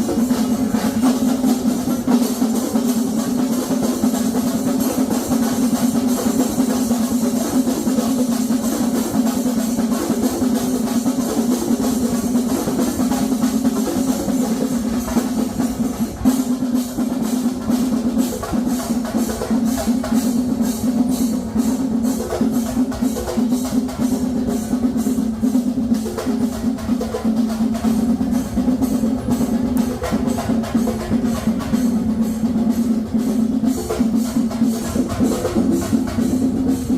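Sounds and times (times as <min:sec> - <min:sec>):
drums in fast rolling strokes: 0:00.0 - 0:36.9.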